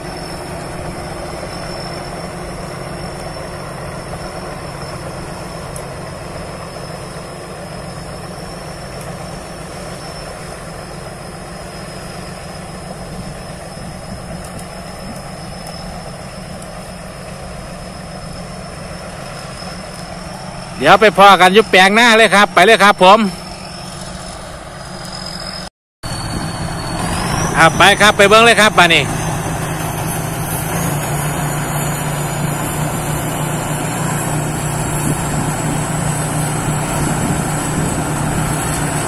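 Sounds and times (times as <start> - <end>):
diesel engine running: 0.0 - 39.0
steady high whine: 0.0 - 39.0.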